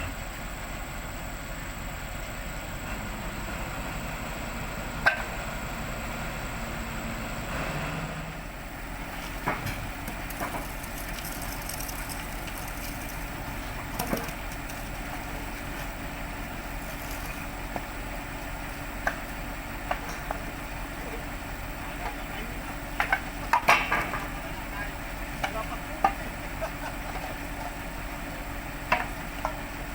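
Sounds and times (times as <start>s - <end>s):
heavy equipment running: 0.0s - 29.9s.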